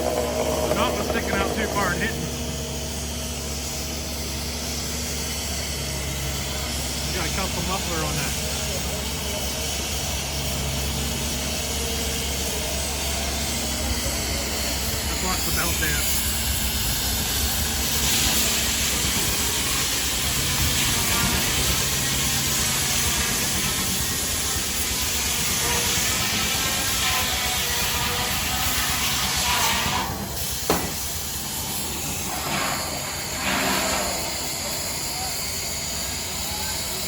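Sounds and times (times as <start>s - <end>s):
steam engine hissing: 0.0s - 37.0s.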